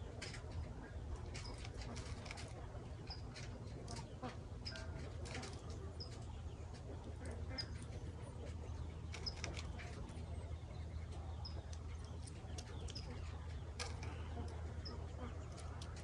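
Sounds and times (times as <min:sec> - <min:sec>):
bird chirping: 0:00.0 - 0:16.0
low background rumble: 0:00.0 - 0:16.0.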